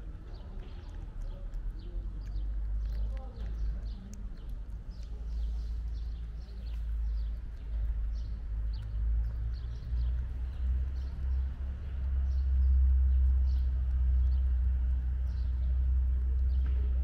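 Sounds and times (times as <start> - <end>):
cat chewing wet food: 0.0 - 17.0
low rumble: 0.0 - 17.0.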